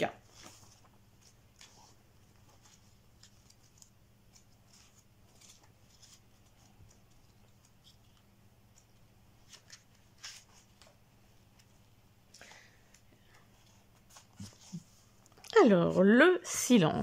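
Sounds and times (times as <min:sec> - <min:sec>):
paper pages rustling: 0:00.0 - 0:16.0.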